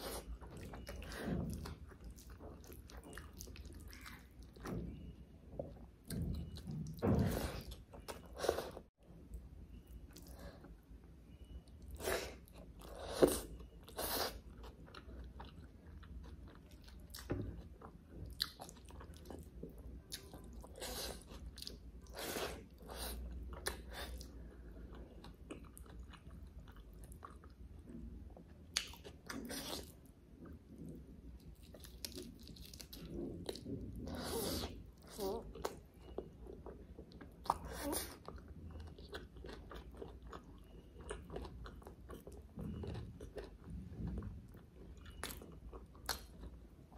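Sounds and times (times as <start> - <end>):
person chewing food: 0.0 - 9.0, 9.8 - 46.9.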